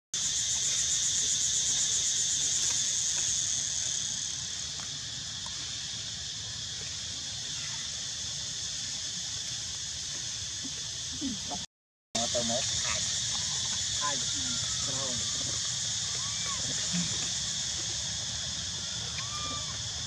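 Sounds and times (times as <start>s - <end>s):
insects chirring: 0.2s - 20.0s.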